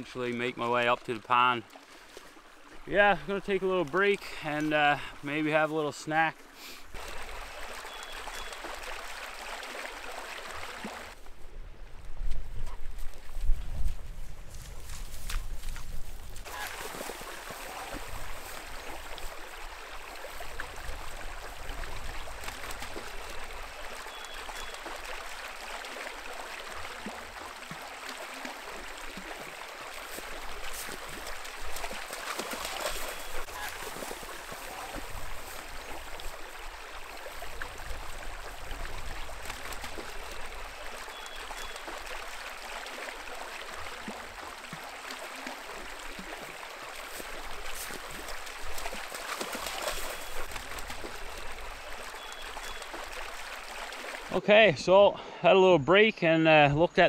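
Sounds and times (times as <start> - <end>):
brook flowing water: 0.0 - 57.0.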